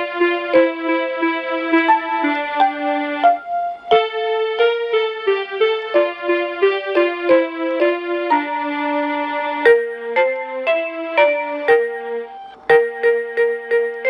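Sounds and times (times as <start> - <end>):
electronic lullaby melody: 0.0 - 14.0.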